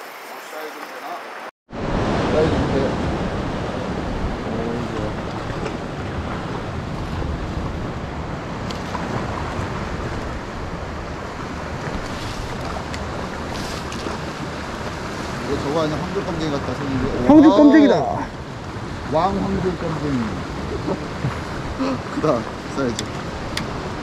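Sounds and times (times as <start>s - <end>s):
sea waves washing: 0.0s - 24.0s
wind rushing over microphone: 1.7s - 24.0s.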